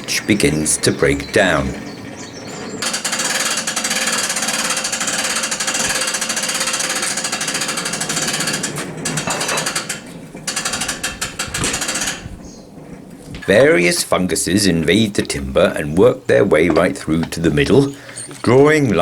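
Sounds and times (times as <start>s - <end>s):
bandsaw mill cutting log: 0.0s - 12.4s, 13.3s - 19.0s.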